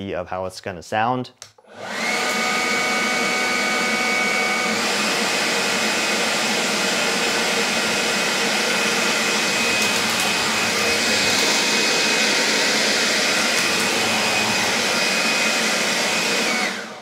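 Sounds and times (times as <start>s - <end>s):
leaf blower running: 1.6s - 17.0s.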